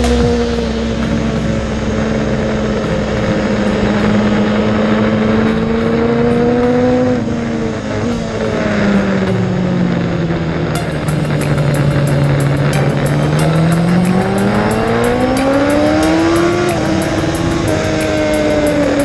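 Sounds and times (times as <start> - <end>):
motorcycle engine revving: 0.0 - 19.0
rushing noise: 0.0 - 19.0.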